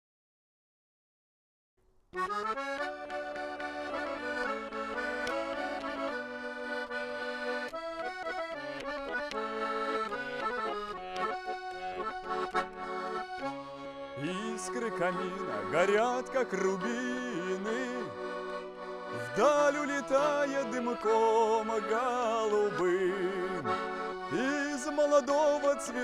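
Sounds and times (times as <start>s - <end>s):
button accordion playing: 2.2s - 26.0s.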